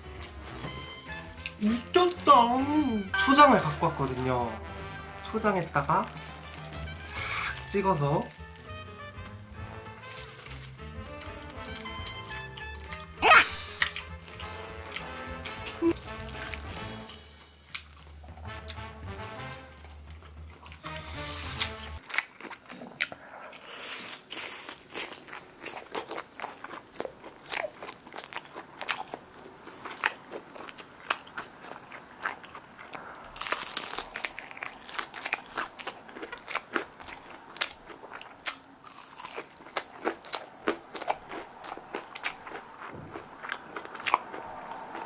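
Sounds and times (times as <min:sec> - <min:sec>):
crunching and chewing fried chicken: 0:05.9 - 0:45.0.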